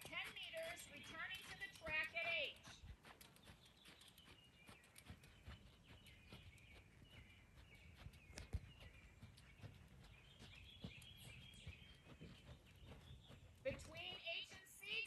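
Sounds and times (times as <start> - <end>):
birds chirping: 0.0 - 15.0
horse hooves on sand: 0.0 - 15.0.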